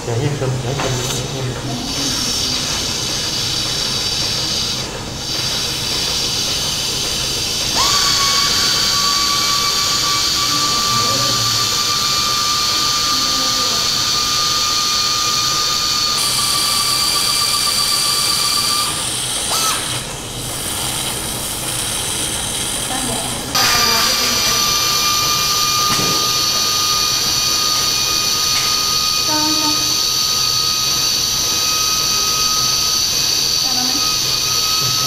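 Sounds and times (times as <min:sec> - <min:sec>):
power wire driver whining: 0:01.8 - 0:35.0.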